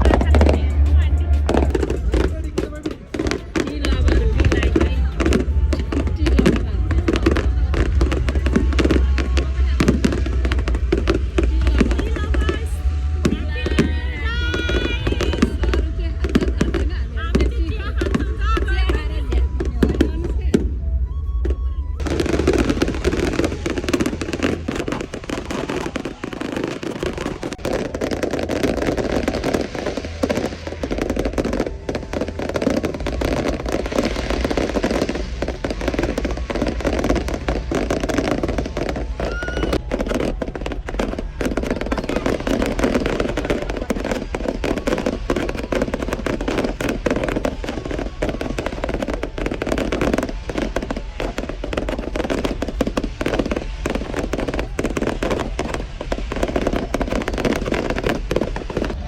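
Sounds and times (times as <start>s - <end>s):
fireworks popping and banging: 0.0s - 59.0s
steady background din: 0.0s - 59.0s.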